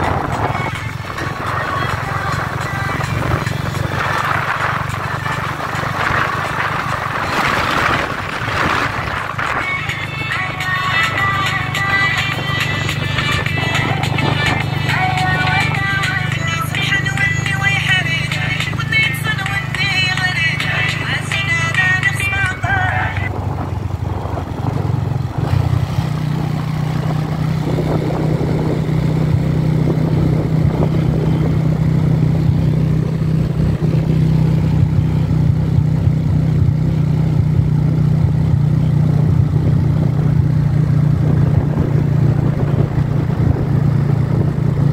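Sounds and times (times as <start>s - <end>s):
motorcycle engine running: 0.0s - 44.9s
road noise: 0.0s - 44.9s.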